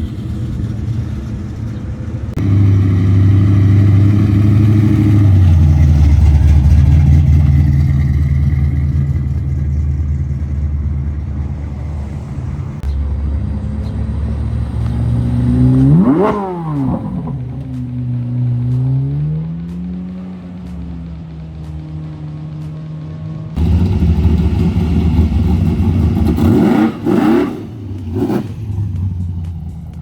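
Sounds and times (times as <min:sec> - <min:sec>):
car pulling away: 0:00.0 - 0:30.0
engine revving: 0:00.0 - 0:30.0
muscle car engines rumbling: 0:00.0 - 0:30.0.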